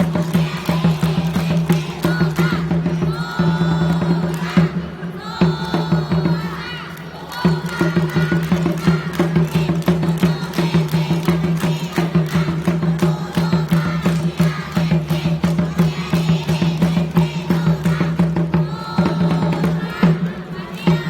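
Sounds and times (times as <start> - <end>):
fast percussion strokes: 0.0 - 21.0.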